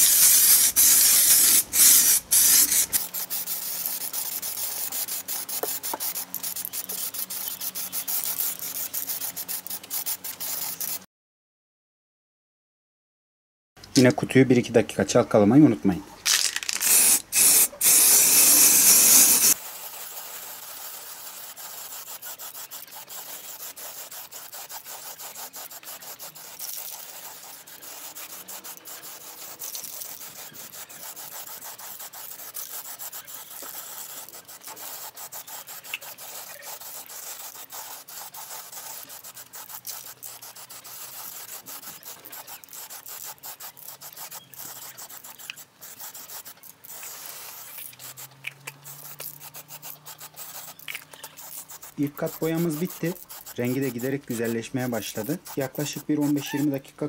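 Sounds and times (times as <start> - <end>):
spray paint can hissing: 0.0 - 11.0, 16.3 - 56.8.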